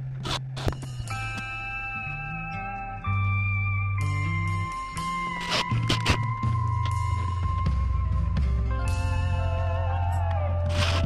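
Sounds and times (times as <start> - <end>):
guitar music: 0.0 - 11.0
steady bass line: 0.0 - 11.0.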